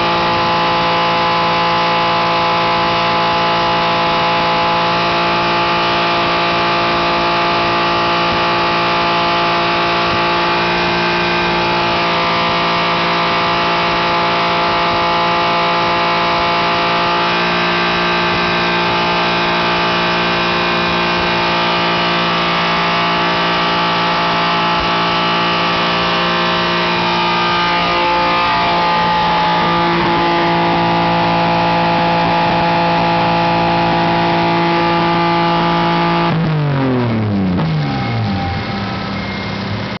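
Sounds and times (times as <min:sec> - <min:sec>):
car engine running loud: 0:00.0 - 0:40.0.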